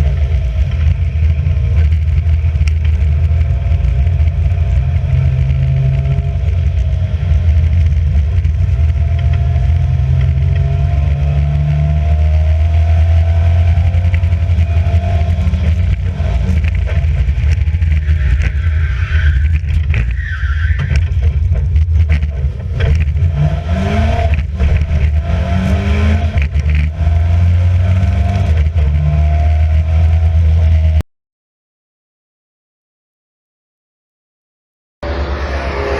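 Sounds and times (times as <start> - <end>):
race car engine revving: 0.0 - 31.0, 35.0 - 35.9.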